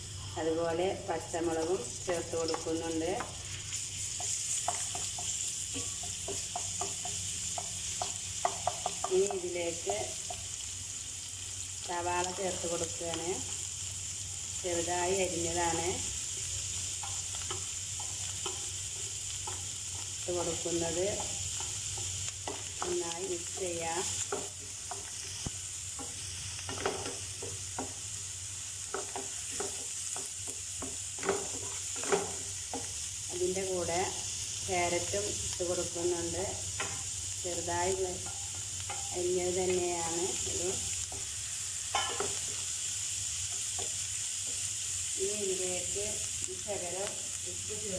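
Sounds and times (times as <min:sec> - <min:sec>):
onions sizzling in oil: 0:00.0 - 0:47.9.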